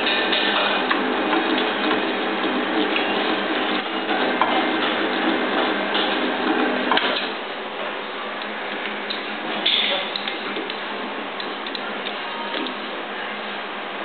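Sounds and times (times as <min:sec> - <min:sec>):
cap sealing machine running: 0:00.0 - 0:14.0.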